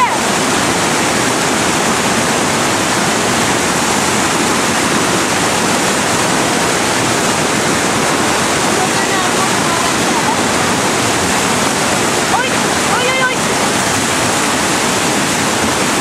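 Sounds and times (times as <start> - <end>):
river rapid rushing: 0.0 - 16.0.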